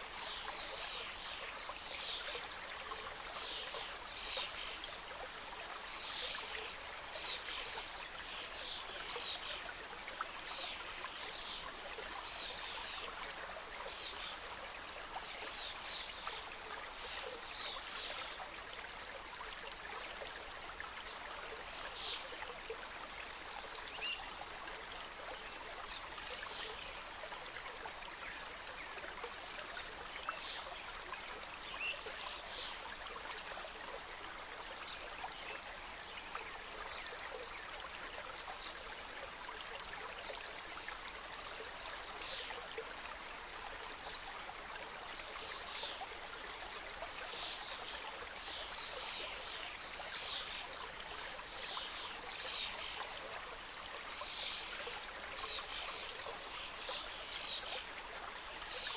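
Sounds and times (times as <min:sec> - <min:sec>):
small splashes and trickles: 0:00.0 - 0:58.9.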